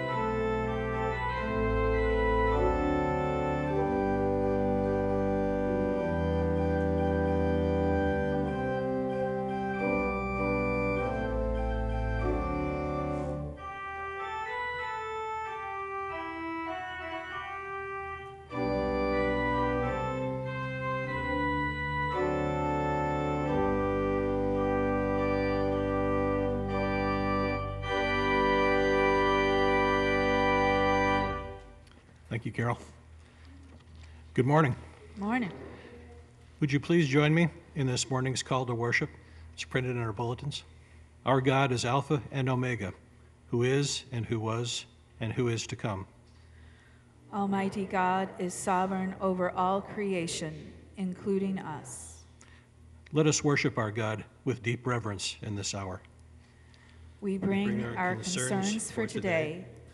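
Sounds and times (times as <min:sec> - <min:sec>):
church organ playing chords: 0:00.0 - 0:33.4, 0:36.6 - 0:49.8, 0:52.5 - 0:59.9.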